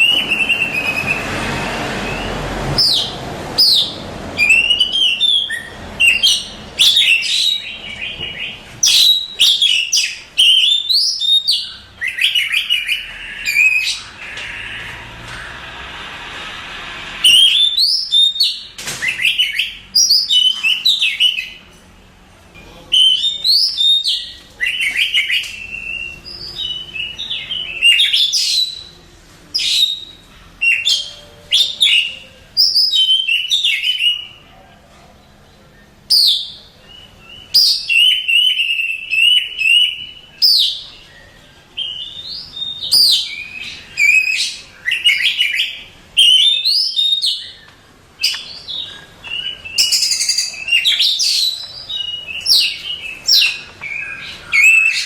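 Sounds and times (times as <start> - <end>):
magpie-robin singing: 0.0 - 15.0, 17.3 - 21.7, 22.9 - 34.4, 35.8 - 55.0.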